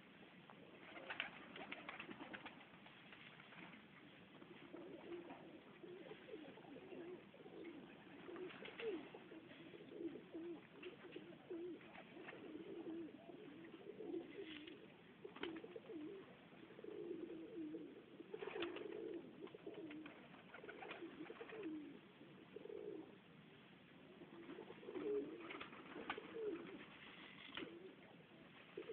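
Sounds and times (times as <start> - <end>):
pigeons cooing: 0.6 - 2.5, 4.0 - 23.2, 24.1 - 28.9.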